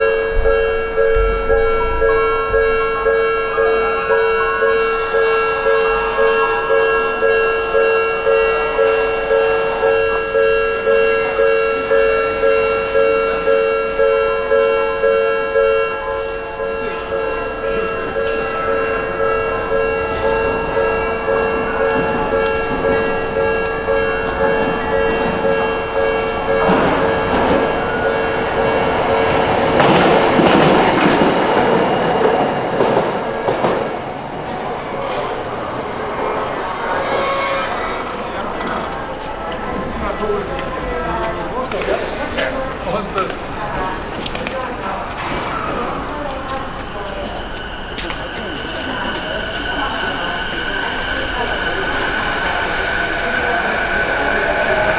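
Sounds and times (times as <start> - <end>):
level-crossing warning bell ringing: 0.0 - 54.9
tram wheels clacking on rail joints: 0.0 - 54.9.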